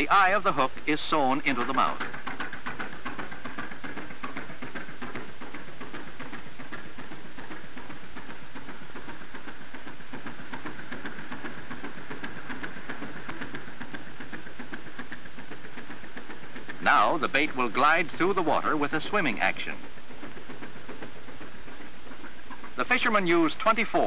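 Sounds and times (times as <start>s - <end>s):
film soundtrack hiss: 0.0s - 24.0s
low hum: 0.0s - 24.0s.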